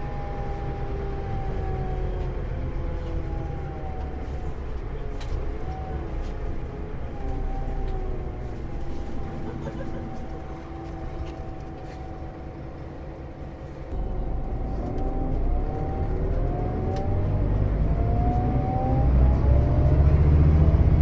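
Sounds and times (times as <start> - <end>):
bus diesel engine accelerating: 0.0 - 21.0.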